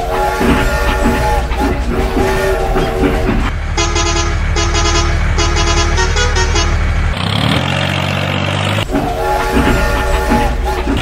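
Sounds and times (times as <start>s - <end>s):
vehicle horn honking: 0.0s - 6.9s, 9.0s - 11.0s
engine rumble: 0.0s - 11.0s.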